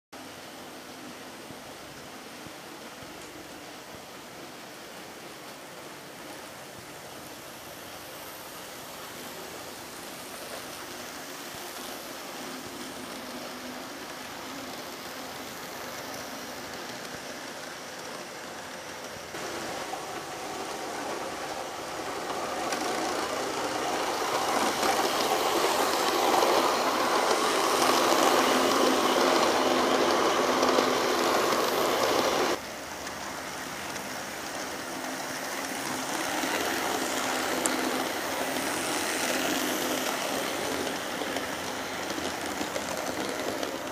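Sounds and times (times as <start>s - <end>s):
model train whirring on track: 0.3s - 43.9s.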